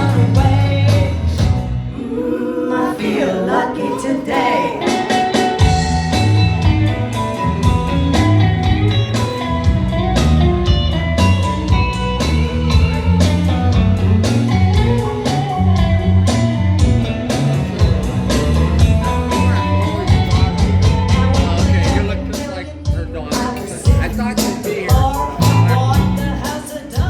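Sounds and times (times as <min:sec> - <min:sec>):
country-pop instrumental: 0:00.0 - 0:27.0.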